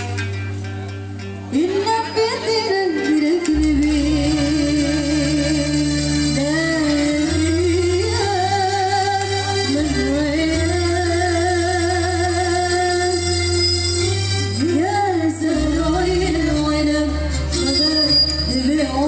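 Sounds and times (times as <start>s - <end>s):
keyboard: 0.0s - 19.0s
low bass notes: 0.0s - 19.0s
oud: 0.0s - 19.0s
violin: 0.0s - 19.0s
woman singing into a microphone: 1.5s - 19.0s.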